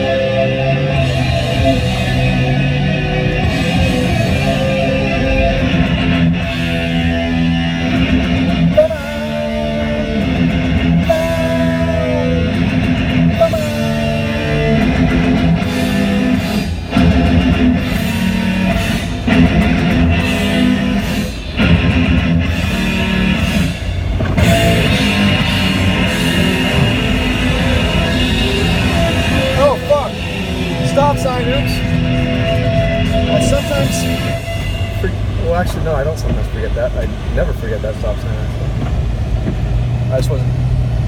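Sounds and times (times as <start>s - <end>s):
rock music with electric guitar: 0.0s - 41.0s.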